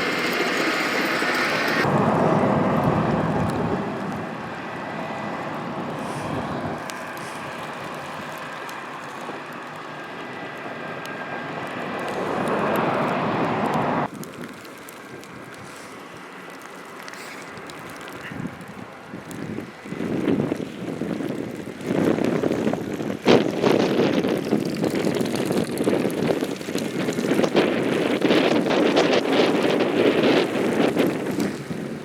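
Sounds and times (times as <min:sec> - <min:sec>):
vehicles passing on slushy road: 0:00.0 - 0:32.0.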